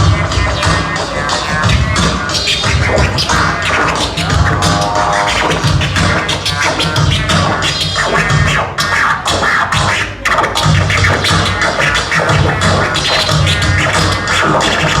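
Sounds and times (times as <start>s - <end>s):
dj music with heavy beat: 0.0s - 8.6s, 10.7s - 15.0s
turntable scratching: 0.0s - 15.0s.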